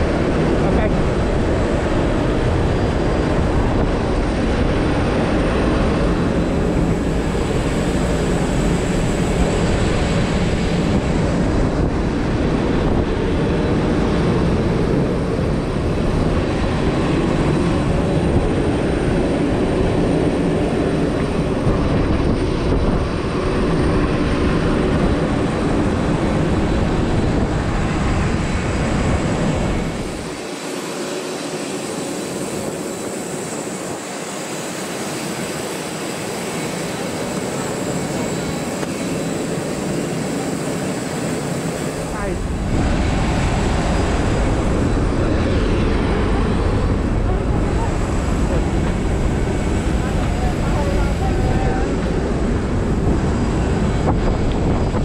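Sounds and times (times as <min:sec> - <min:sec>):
high turbine whine: 0:00.0 - 0:55.0
jet airliner roar: 0:00.0 - 0:55.0.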